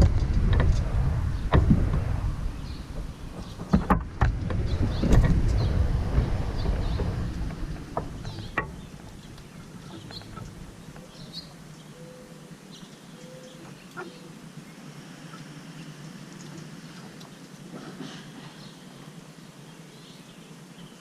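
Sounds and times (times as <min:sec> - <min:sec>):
small birds chirping: 0:01.2 - 0:21.0.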